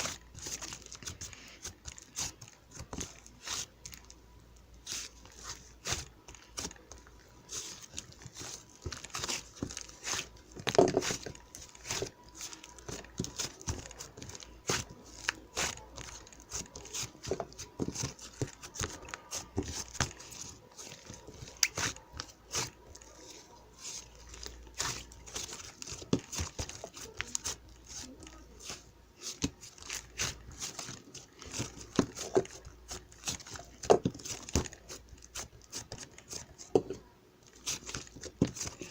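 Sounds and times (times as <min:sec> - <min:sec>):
crinkling tearing and crunching: 0:00.0 - 0:38.9.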